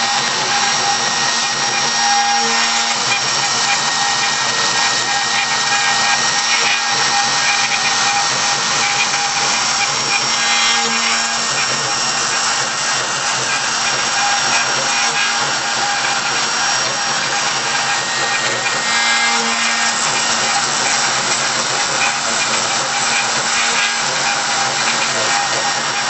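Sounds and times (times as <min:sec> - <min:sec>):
cnc machine motor whine: 0:00.0 - 0:26.0.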